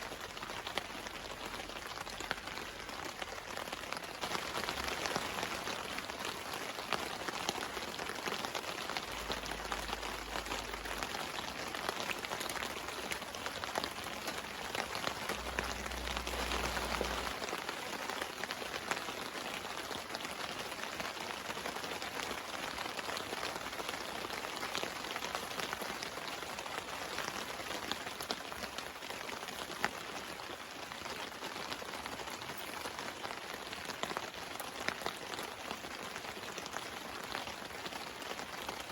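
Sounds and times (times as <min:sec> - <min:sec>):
rain pattering on a tarp: 0:00.0 - 0:38.9.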